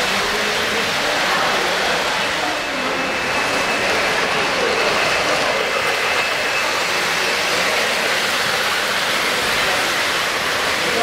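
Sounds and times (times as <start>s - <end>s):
model train rolling rumble: 0.0s - 11.0s
steam hiss: 0.0s - 11.0s.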